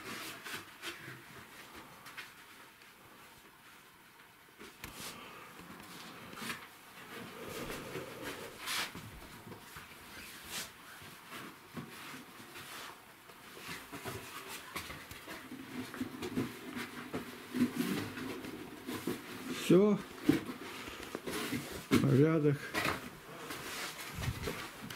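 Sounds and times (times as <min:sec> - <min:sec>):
rustling: 0:00.0 - 0:24.9.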